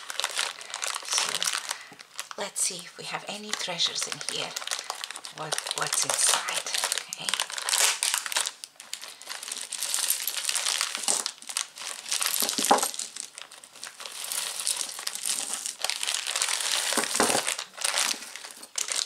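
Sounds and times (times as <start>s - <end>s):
jewelry bag crinkling: 0.0s - 19.0s.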